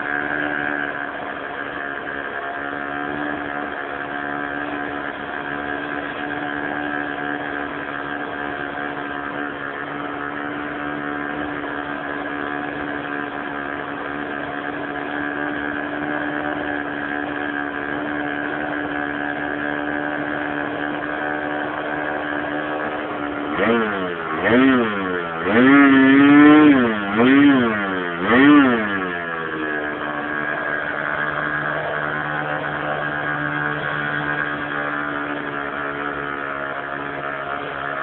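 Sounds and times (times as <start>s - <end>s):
model airplane engine buzzing: 0.0s - 38.0s.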